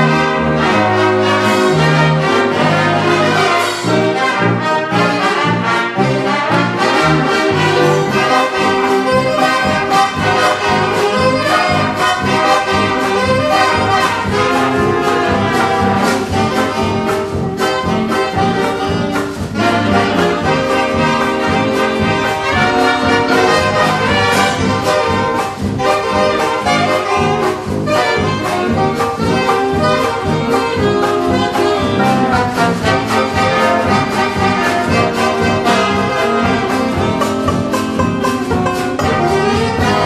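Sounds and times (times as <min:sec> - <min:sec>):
bass line: 0:00.0 - 0:40.0
jazz dance band: 0:00.0 - 0:40.0
saxophones: 0:00.0 - 0:40.0
trumpets and trombone: 0:00.0 - 0:40.0.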